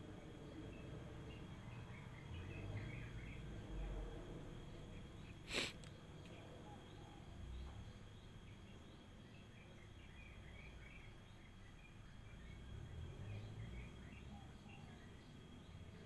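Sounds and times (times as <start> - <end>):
insect chirps: 0.0 - 16.0
insects buzzing: 0.0 - 16.0.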